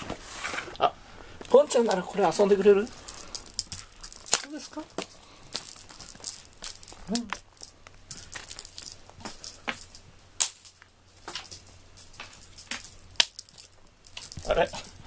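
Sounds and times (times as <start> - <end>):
small bell jingling: 1.7 - 15.0.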